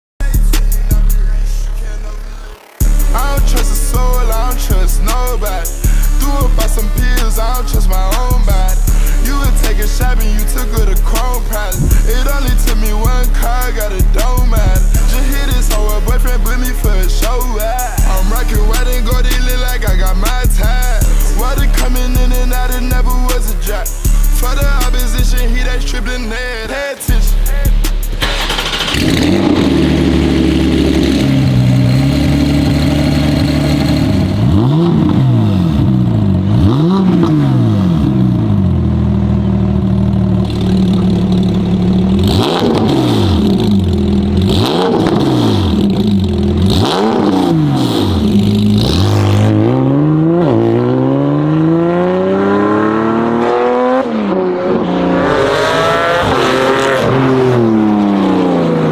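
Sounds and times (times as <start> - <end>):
sports car engine revving: 0.2 - 58.9.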